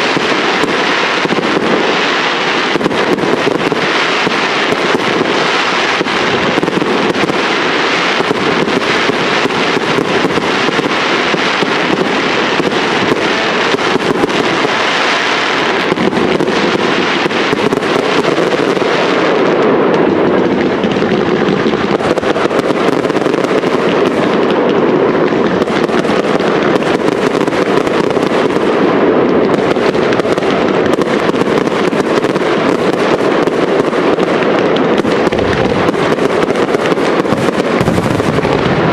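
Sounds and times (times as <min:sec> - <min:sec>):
firework crackle: 0:00.0 - 0:38.9.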